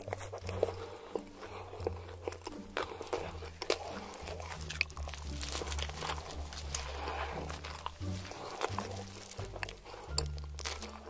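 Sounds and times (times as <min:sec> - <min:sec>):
crunchy chewing of fried chicken: 0:00.0 - 0:11.0.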